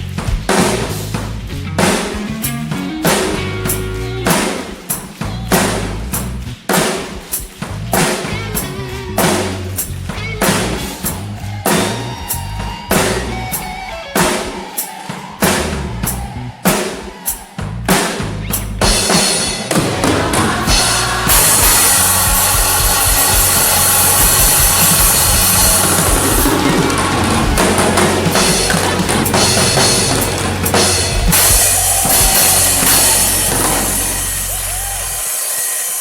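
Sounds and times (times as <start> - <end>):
backing track with bass: 0.0 - 14.4, 15.4 - 16.8, 17.6 - 35.2
drum kit playing: 0.0 - 36.0.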